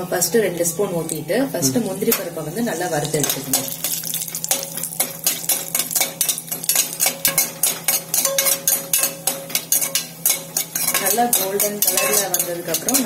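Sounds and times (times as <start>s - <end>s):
nuts frying: 0.0s - 13.0s
metal spoon scraping pan: 1.8s - 13.0s.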